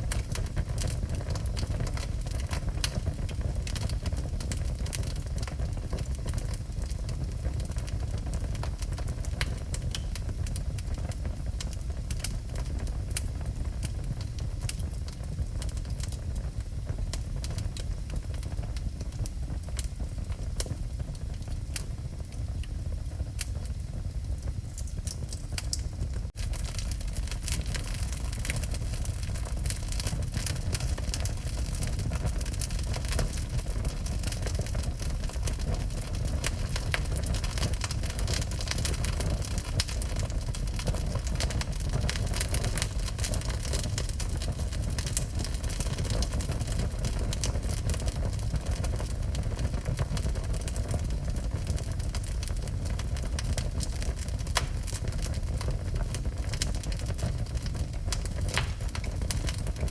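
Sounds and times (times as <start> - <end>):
low rumble of fire: 0.0 - 59.9
wood fire crackling and popping: 0.0 - 59.9.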